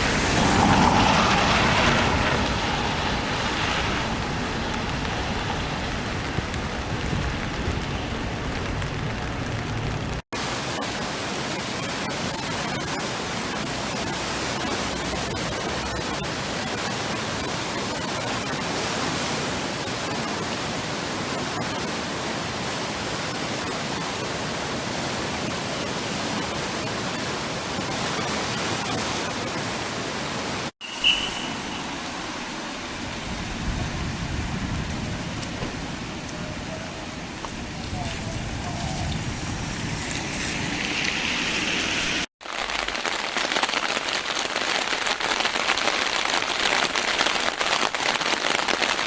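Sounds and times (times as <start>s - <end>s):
heavy rain and running water: 0.0s - 49.0s.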